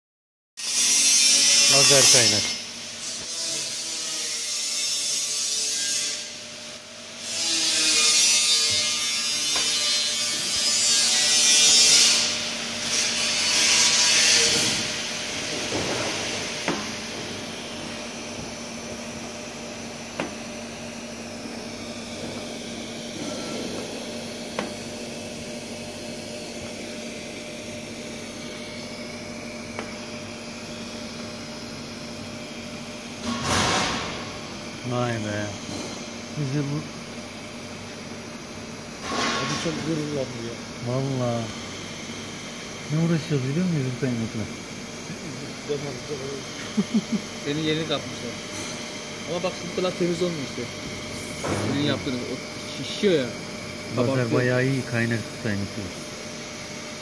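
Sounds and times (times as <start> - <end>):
welding machine hum: 0.7 - 57.0.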